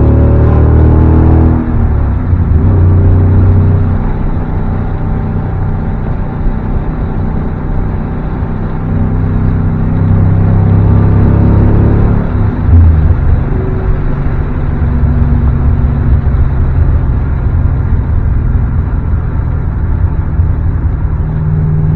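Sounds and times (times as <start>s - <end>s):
car engine and exhaust drone: 0.0s - 21.9s.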